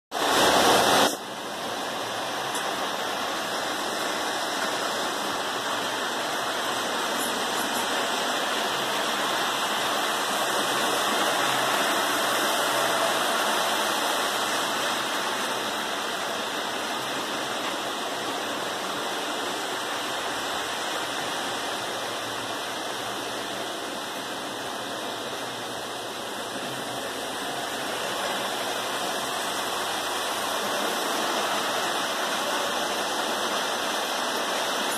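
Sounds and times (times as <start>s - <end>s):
model trains whirring on track: 0.2s - 34.9s.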